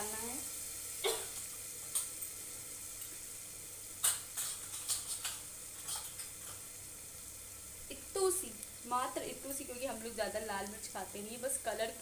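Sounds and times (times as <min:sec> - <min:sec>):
soft sizzle of frying in oil: 0:00.0 - 0:12.0.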